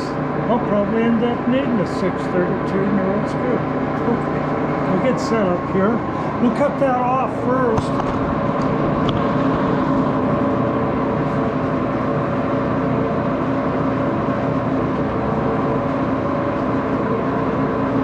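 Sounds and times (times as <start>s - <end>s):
lathe humming: 0.0s - 18.0s.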